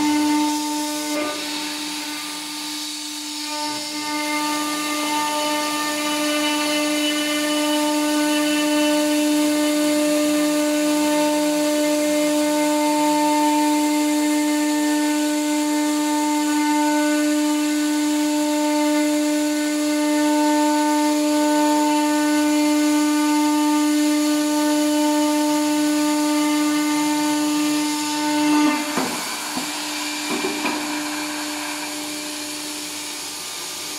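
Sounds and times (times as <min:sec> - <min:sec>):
hiss of wood cutting: 0:00.0 - 0:33.9
router spindle whine: 0:00.0 - 0:33.9.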